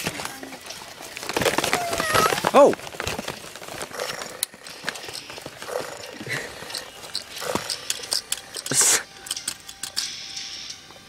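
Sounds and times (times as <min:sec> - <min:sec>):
clicks and rustles of packaging: 0:00.0 - 0:10.1.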